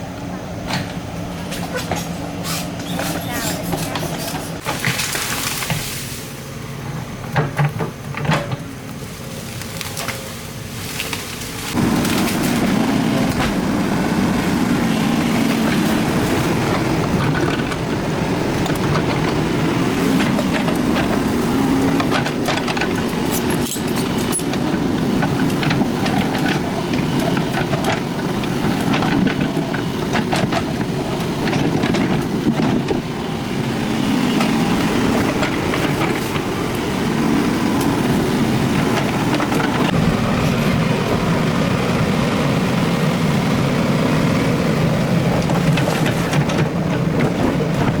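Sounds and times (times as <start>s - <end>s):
excavator engine under load: 0.0s - 48.0s
rock and earth clattering: 7.1s - 42.0s, 43.0s - 48.0s.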